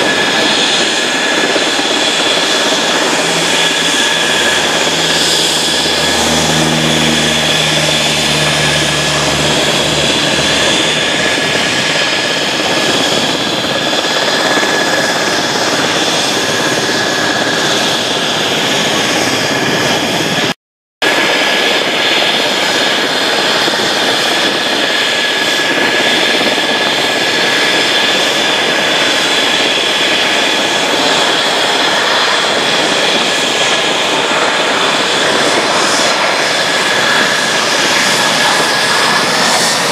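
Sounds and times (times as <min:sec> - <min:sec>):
jet engines whining: 0:00.0 - 0:39.9
turboprop propeller drone: 0:00.0 - 0:39.9.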